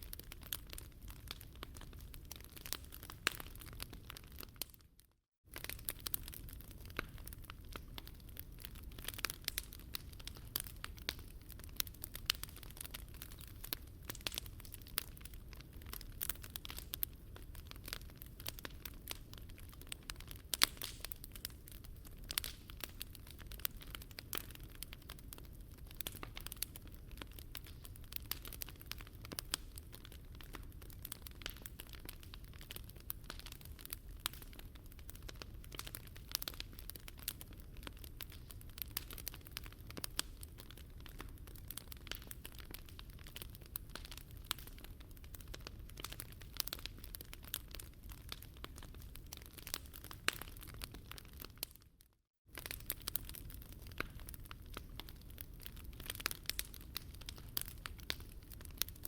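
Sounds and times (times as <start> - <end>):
campfire crackling and popping: 0.0 - 59.0
low fire rumble: 5.5 - 51.5, 52.5 - 59.0.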